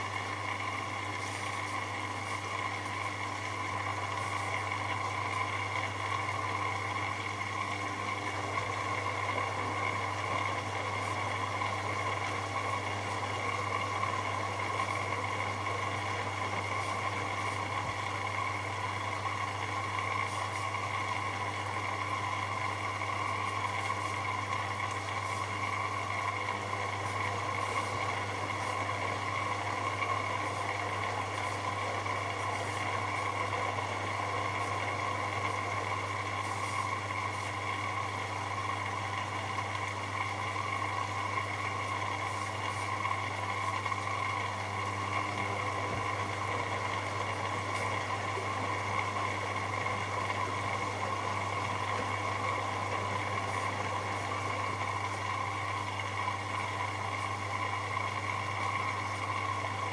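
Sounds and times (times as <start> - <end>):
washing machine running: 0.0 - 59.9.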